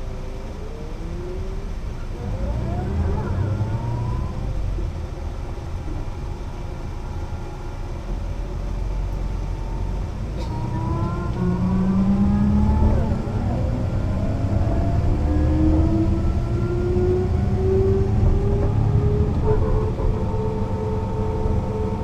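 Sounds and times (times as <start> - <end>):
bus diesel engine whining: 0.0 - 22.0.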